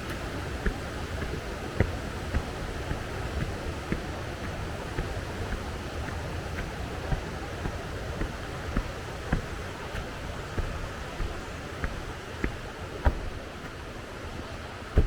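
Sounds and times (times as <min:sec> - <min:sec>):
footsteps on rocky trail: 0:00.0 - 0:15.0
mountain stream rushing: 0:00.0 - 0:15.0.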